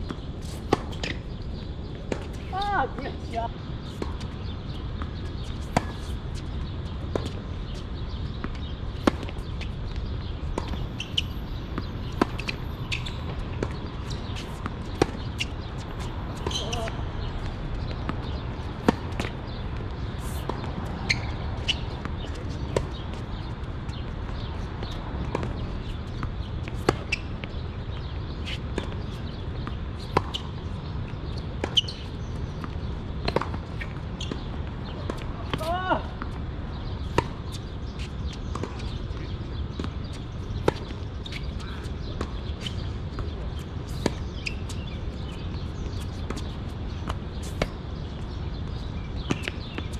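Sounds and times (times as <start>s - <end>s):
tennis balls bouncing: 0.0s - 49.9s.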